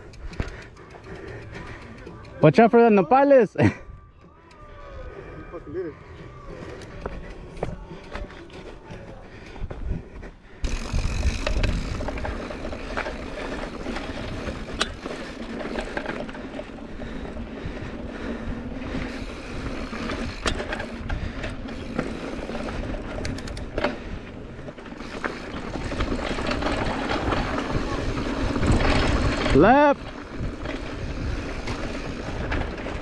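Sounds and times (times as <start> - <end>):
bike rattling: 0.0 - 33.0
tyre and trail noise: 0.0 - 33.0.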